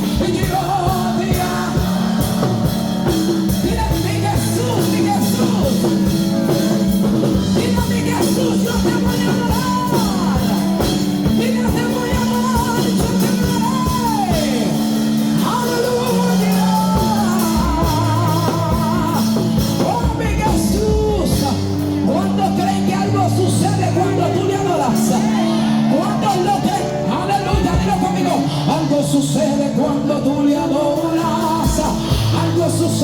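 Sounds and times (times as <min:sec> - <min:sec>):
band with drums and chords: 0:00.0 - 0:33.0.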